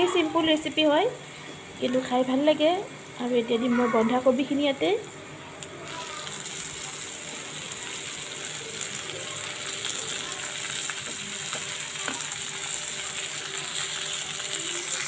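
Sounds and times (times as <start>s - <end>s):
cabbage sizzling in hot oil: 0.1s - 15.0s.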